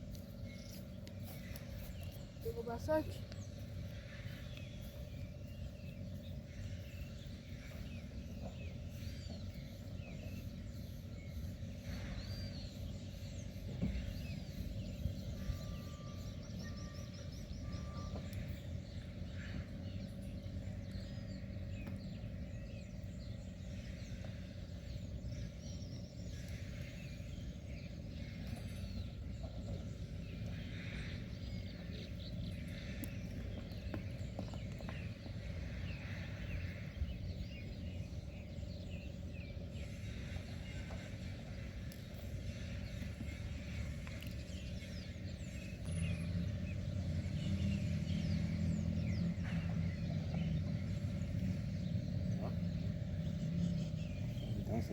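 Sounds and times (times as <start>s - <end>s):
birds chirping: 0.0s - 54.9s
steady low rumble: 0.0s - 54.9s.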